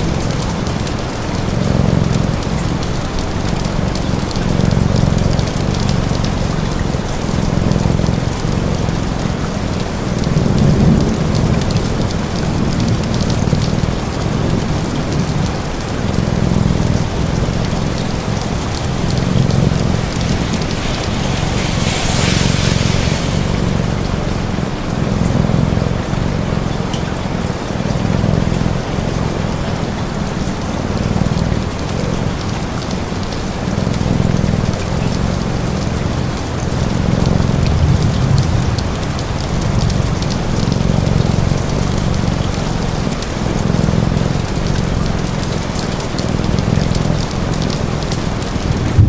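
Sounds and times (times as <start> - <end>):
steady rain: 0.0 - 49.0
cat purring: 0.4 - 49.0.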